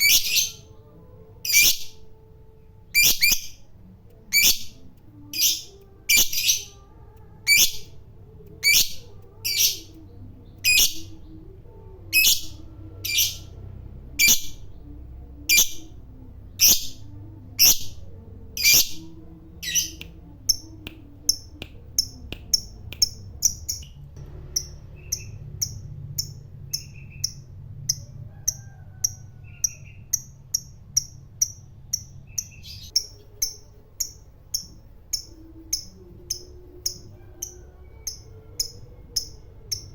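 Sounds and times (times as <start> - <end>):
lovebird chirping: 0.0 - 2.2, 2.9 - 16.0, 16.6 - 28.7, 29.4 - 39.9.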